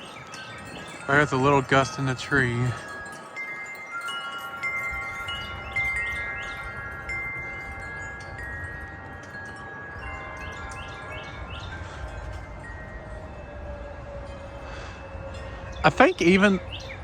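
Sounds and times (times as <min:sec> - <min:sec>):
metal wind chimes ringing: 0:00.0 - 0:17.0.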